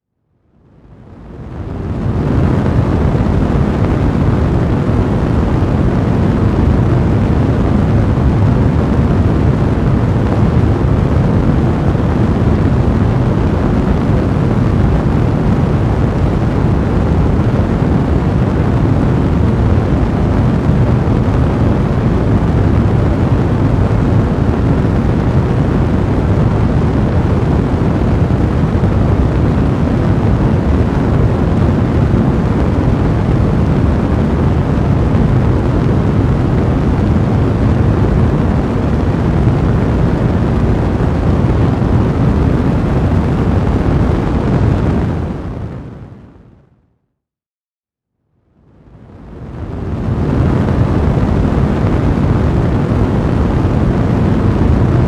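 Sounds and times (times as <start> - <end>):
fire blazing in a fireplace: 0.8 - 45.9, 48.9 - 55.0.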